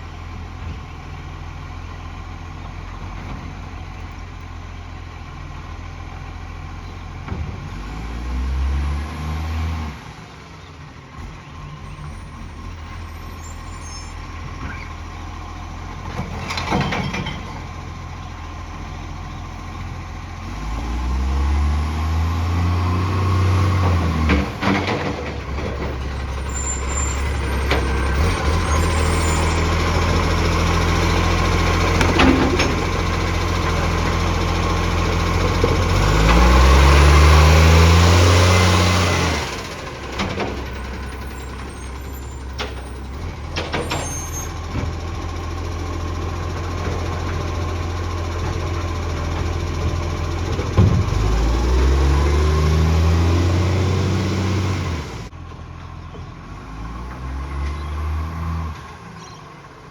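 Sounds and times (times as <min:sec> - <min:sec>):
truck engine revving: 0:06.1 - 0:16.5, 0:17.5 - 0:55.4, 0:56.3 - 0:59.8.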